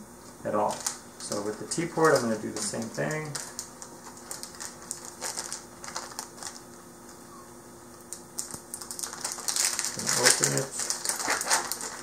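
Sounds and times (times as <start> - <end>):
plastic packet crinkling: 0.6 - 7.2, 8.1 - 12.0.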